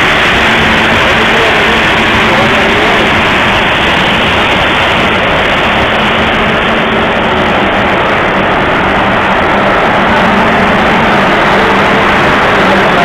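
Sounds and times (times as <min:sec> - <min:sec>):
low hum: 0:00.0 - 0:13.0
machinery rushing noise: 0:00.0 - 0:13.0.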